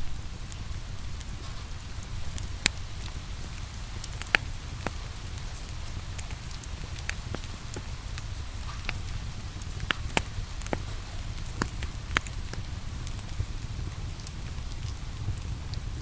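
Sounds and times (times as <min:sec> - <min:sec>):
rain falling: 0:00.0 - 0:16.0
wood fire crackling: 0:00.2 - 0:16.0
fire popping: 0:00.5 - 0:16.0.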